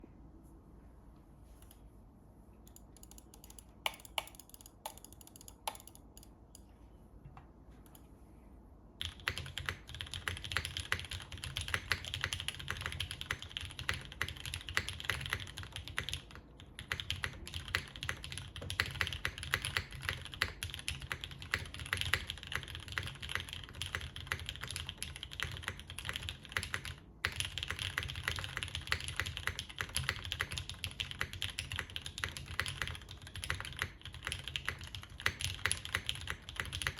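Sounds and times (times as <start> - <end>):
mechanical keyboard typing: 2.7 - 6.3, 9.0 - 36.9.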